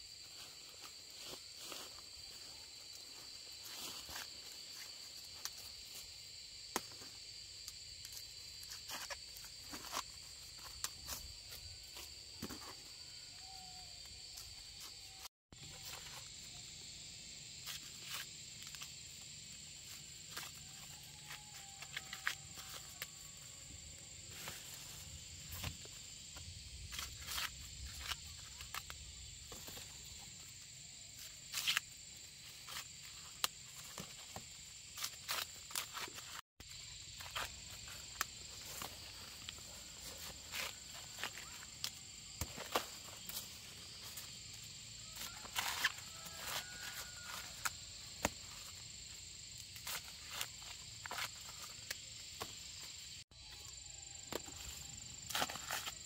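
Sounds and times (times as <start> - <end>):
high-pitched insect drone: 9.9 - 56.0.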